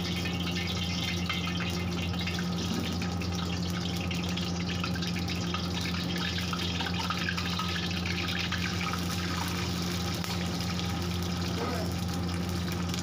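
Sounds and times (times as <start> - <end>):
hot oil sizzling in a wok: 0.0 - 13.0
steady low hum: 0.0 - 13.0.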